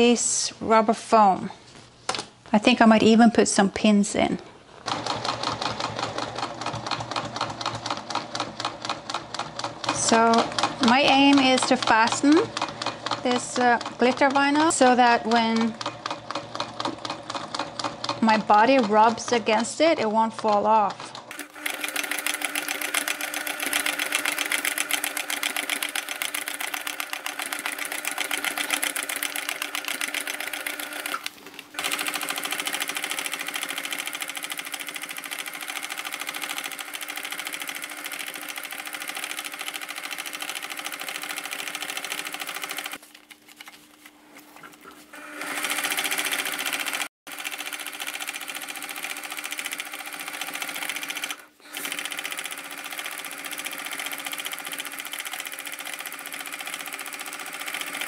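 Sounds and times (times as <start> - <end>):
sewing machine running fast: 4.9 - 14.7, 15.5 - 19.1, 21.2 - 43.0, 45.2 - 58.0.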